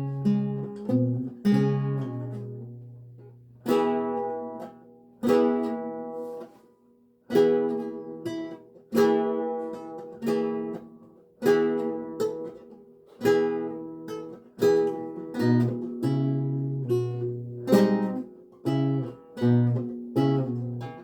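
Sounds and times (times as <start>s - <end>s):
lute plucked chords: 0.0s - 6.2s, 7.3s - 21.0s.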